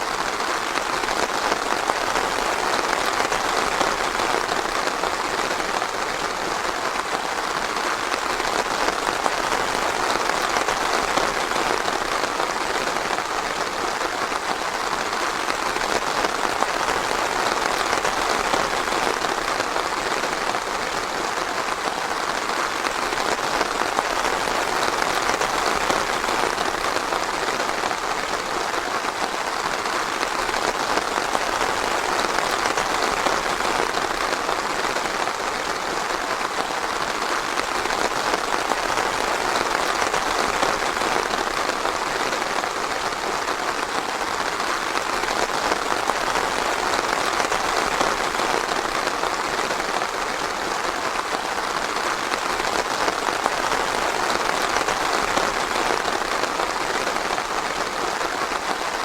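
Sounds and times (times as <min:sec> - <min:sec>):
rain falling in a forest: 0:00.0 - 0:59.0.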